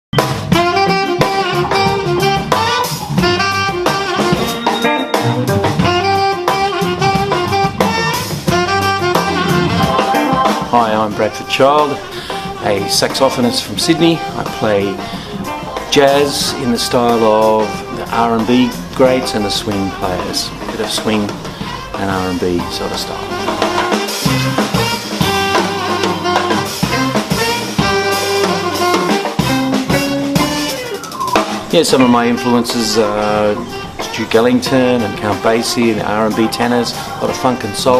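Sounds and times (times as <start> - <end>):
bass: 0.1 - 37.9
drum kit: 0.1 - 37.9
saxophone playing swing tune: 0.2 - 37.9.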